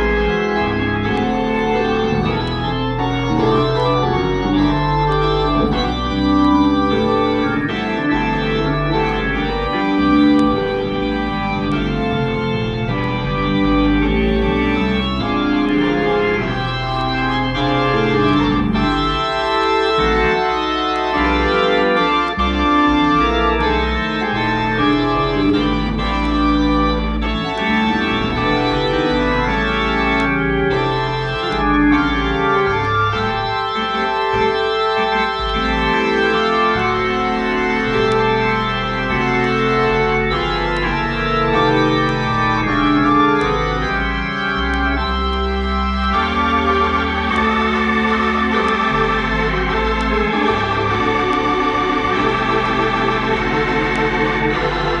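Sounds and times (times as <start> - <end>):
organ playing chords: 0.0 - 55.0.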